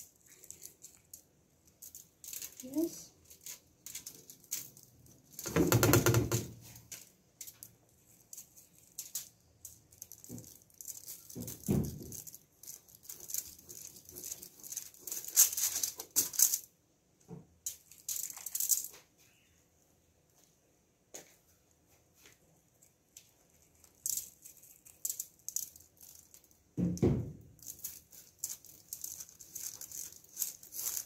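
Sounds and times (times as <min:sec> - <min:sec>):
aluminium foil crinkling: 0:00.0 - 0:05.6, 0:06.6 - 0:16.7, 0:17.6 - 0:19.5, 0:22.2 - 0:31.0.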